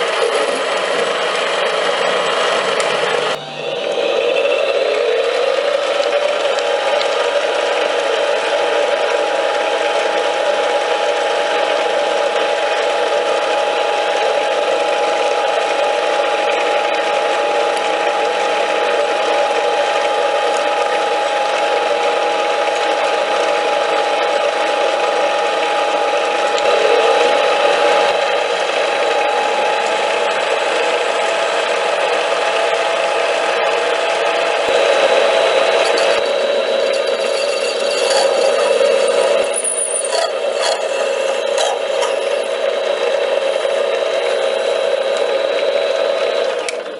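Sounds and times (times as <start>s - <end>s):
metal lathe whining: 0.0s - 46.9s.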